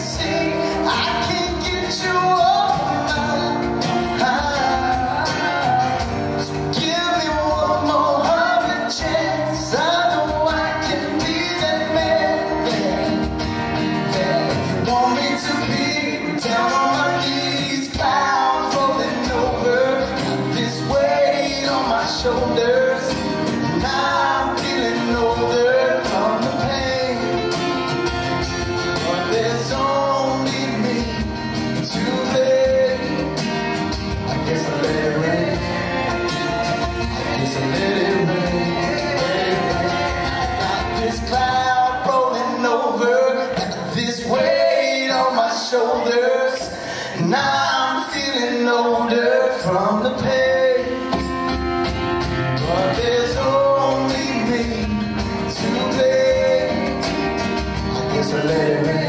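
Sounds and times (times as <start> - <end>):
person singing: 0.0 - 59.0
strummed acoustic guitars: 0.0 - 59.0.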